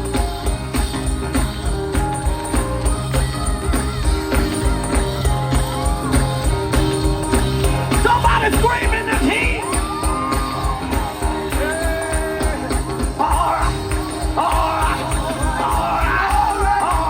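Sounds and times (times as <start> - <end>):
gospel band music: 0.0 - 17.0
tambourine shaking: 0.0 - 17.0.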